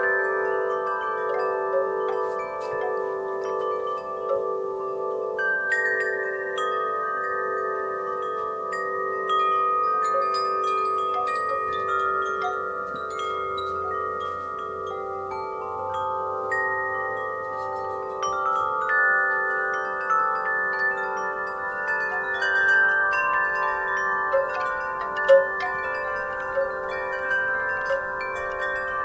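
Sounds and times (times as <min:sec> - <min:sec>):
wind chimes ringing: 0:00.0 - 0:29.0.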